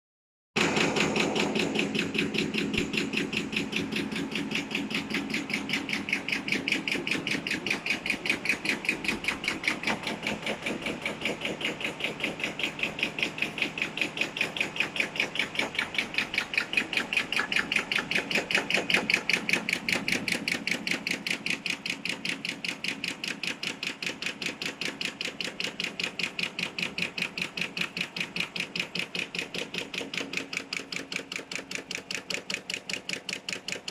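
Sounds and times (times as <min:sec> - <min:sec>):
cutting machine clacking: 0:00.6 - 0:33.9.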